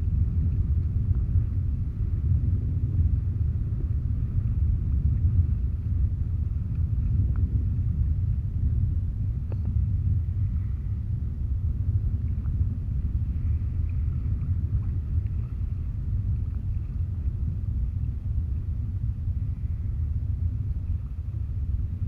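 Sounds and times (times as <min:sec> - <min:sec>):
sea: 0:00.0 - 0:22.0
wind rumble on microphone: 0:00.0 - 0:22.0.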